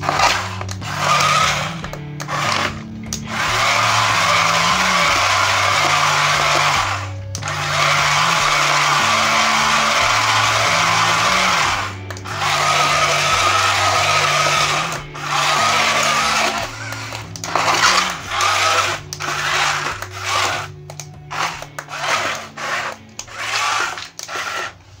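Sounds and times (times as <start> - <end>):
small gear motors running: 0.0 - 24.8.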